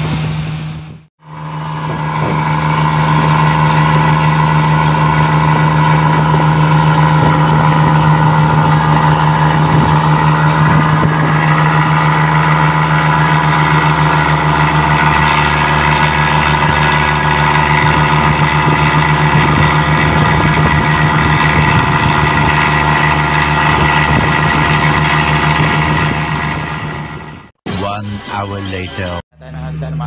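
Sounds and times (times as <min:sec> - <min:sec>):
churning wake rushing: 0:00.0 - 0:27.4
ship diesel engines droning: 0:00.0 - 0:30.0.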